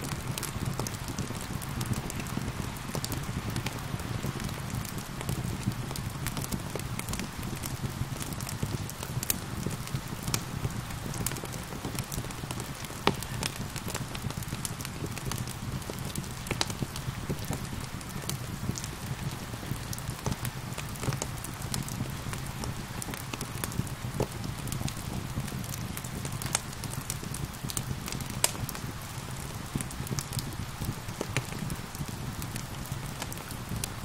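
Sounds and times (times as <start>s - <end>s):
rain hissing: 0.0s - 34.0s
wood fire crackling and popping: 0.0s - 34.0s.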